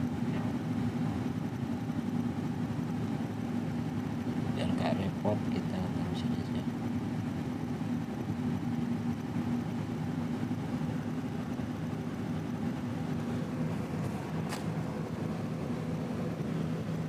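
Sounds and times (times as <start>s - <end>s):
low mechanical drone: 0.0s - 17.0s.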